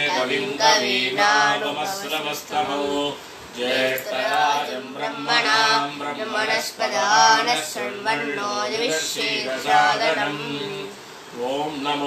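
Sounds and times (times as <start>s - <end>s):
voices singing devotional chant: 0.0s - 12.0s.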